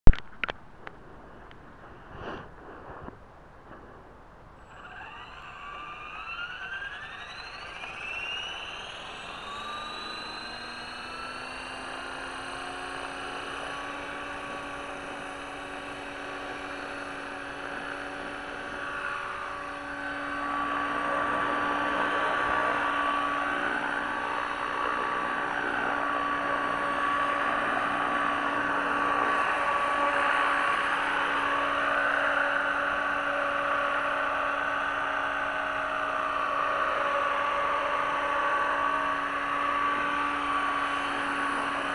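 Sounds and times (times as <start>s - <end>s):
rotor noise: 4.5s - 41.9s
rc helicopter motor whine: 4.6s - 41.9s.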